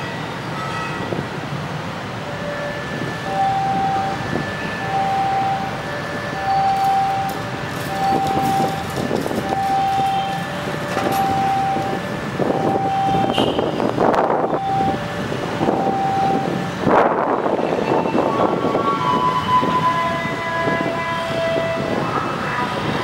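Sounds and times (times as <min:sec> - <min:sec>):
diesel locomotive rumble: 0:00.0 - 0:23.0
two-tone electronic warning alarm: 0:02.1 - 0:23.0
wind gusts on microphone: 0:02.8 - 0:23.0.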